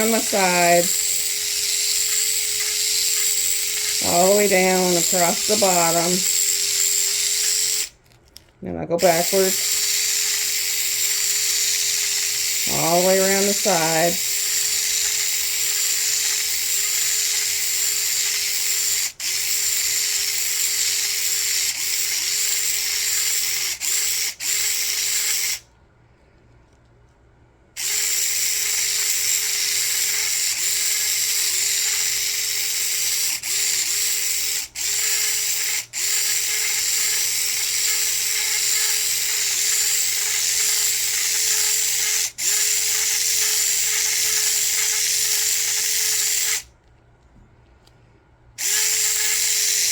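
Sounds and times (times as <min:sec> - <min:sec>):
electric mixer motor whine: 0:00.0 - 0:07.9, 0:09.0 - 0:25.6, 0:27.8 - 0:46.7, 0:48.6 - 0:49.9.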